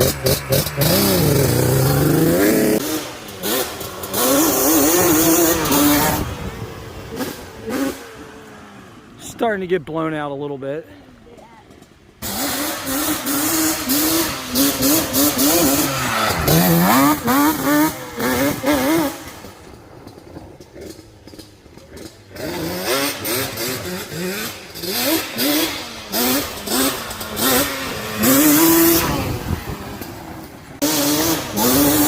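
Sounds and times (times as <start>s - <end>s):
two-stroke engine revving: 0.0s - 10.5s, 11.6s - 32.0s.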